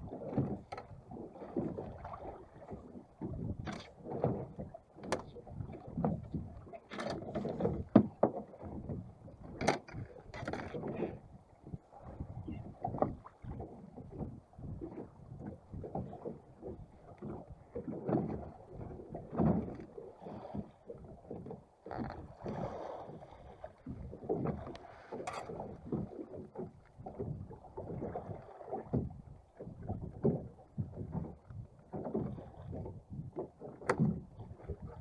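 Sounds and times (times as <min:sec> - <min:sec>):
water slapping against boat hull: 0:00.0 - 0:35.0.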